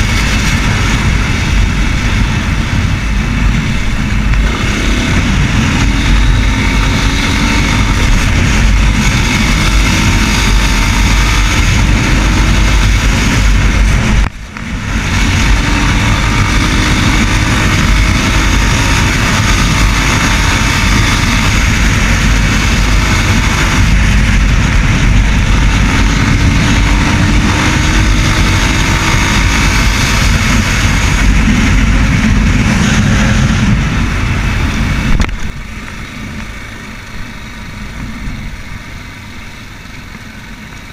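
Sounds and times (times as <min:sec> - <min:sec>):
dense rushing noise: 0:00.0 - 0:40.9
motorcycle engine running: 0:00.0 - 0:40.9.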